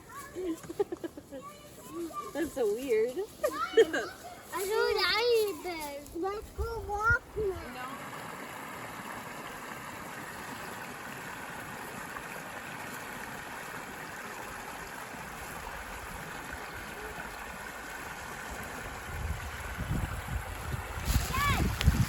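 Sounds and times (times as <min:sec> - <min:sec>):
stream flowing and gurgling: 0:00.0 - 0:22.0.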